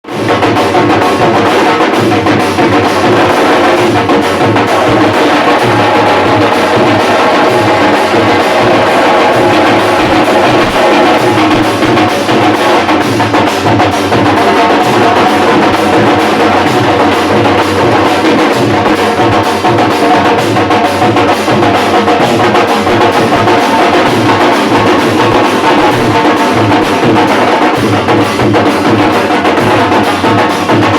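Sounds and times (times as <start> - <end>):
drum group playing rhythmic beat: 0.0 - 30.9.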